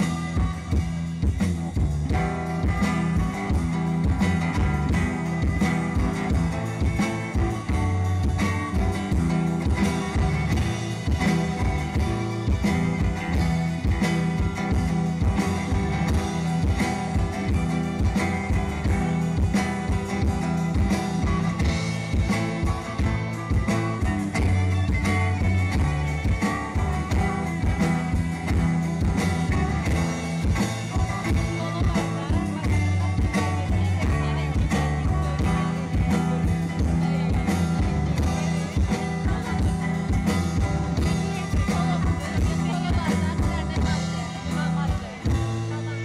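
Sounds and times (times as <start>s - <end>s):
acoustic guitar: 0.0s - 46.0s
drum kit beat: 0.0s - 46.0s
electric guitar: 0.0s - 46.0s
steady low bass notes: 0.0s - 46.0s.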